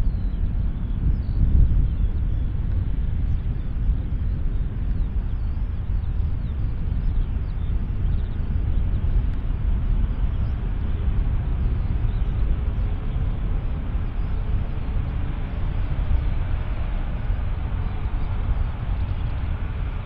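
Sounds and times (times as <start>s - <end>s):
jet engines deep rumble: 0.0s - 20.0s.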